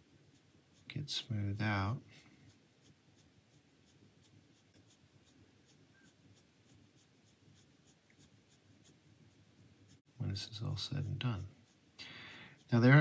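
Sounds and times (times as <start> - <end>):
ballpoint pen scratching on paper: 0.0 - 13.0.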